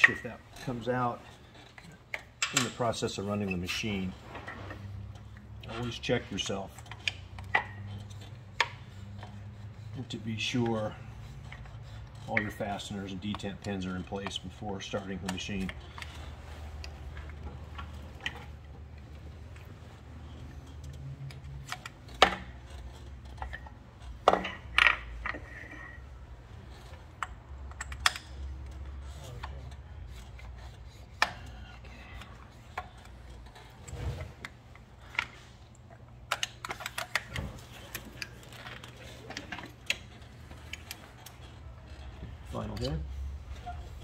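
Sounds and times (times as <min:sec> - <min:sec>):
metal parts clicking and knocking: 0:00.0 - 0:09.4, 0:10.0 - 0:44.0.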